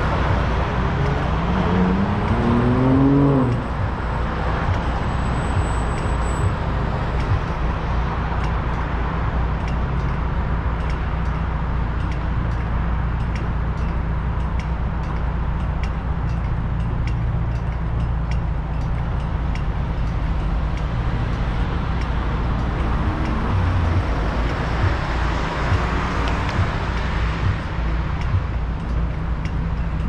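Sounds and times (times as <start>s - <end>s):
regular light ticking: 0.0s - 30.0s
traffic rumble: 0.0s - 30.0s.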